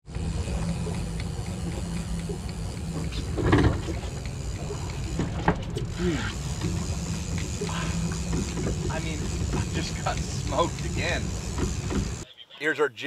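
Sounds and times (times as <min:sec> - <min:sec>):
boat engine idling: 0:00.0 - 0:12.2.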